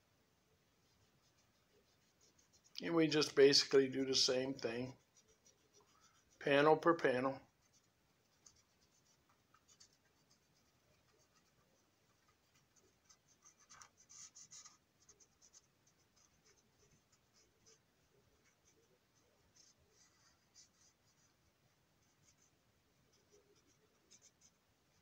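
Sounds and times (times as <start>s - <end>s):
colouring tool scratching on plastic: 0.8s - 3.0s, 4.5s - 6.7s, 7.4s - 25.0s.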